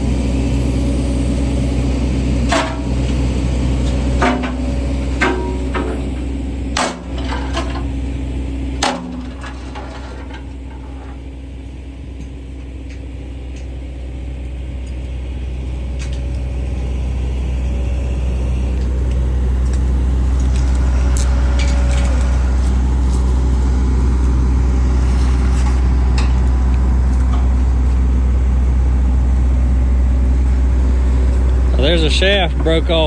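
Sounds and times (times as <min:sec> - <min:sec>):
heavy engine rumbling: 0:00.0 - 0:33.0.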